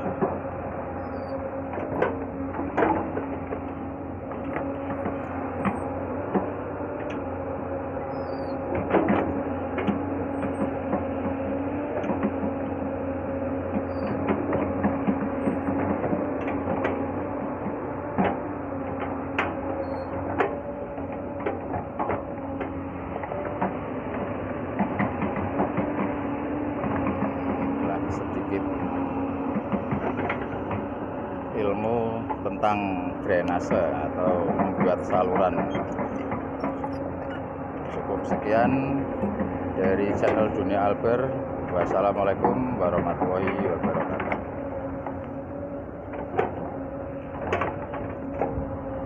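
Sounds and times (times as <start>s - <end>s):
clunks and knocks: 0.0s - 0.5s, 1.1s - 7.2s, 8.7s - 12.7s, 13.7s - 31.0s, 31.6s - 45.3s, 46.0s - 48.7s
diesel engine droning: 0.0s - 49.0s.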